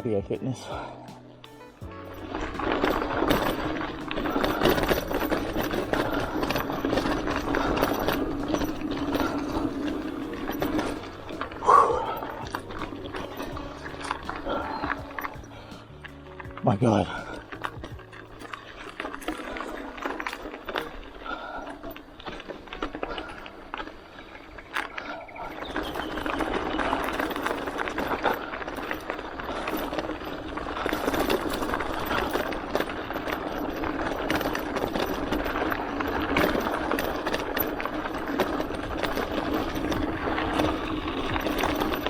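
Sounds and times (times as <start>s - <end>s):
bike tyres rumbling and rattling: 0.0s - 42.0s.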